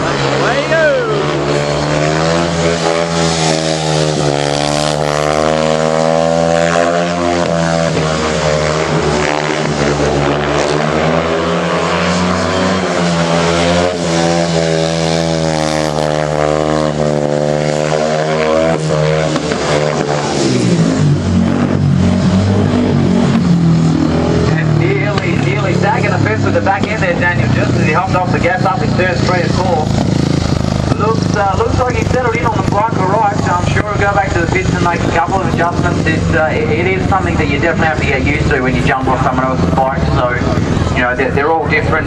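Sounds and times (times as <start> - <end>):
motorcycle engine racing: 0.0 - 42.0.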